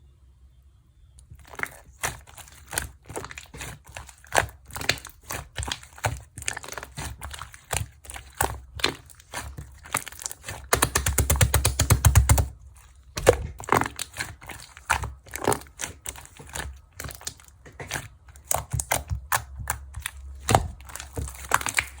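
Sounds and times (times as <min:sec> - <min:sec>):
crinkling: 0:01.2 - 0:22.0.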